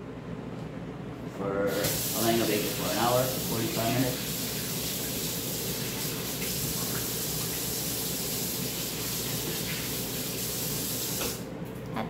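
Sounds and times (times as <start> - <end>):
faucet running into sink: 1.7 - 11.4.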